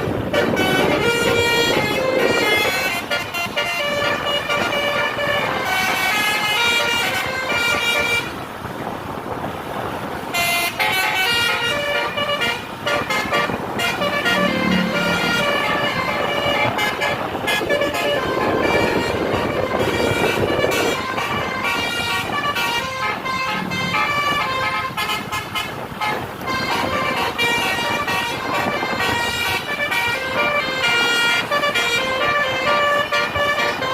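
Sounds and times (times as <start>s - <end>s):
musical bus horn: 0.0s - 33.9s.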